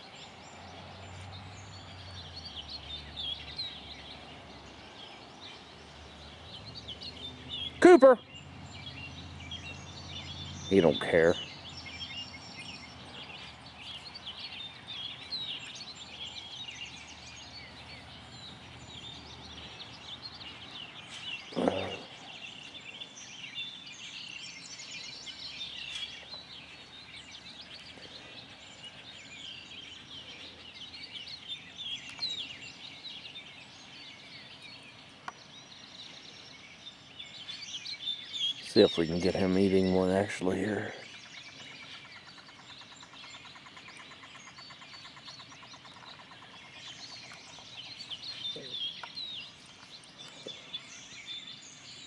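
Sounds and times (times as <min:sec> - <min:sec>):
songbirds chirping and singing: 0:00.0 - 0:52.0.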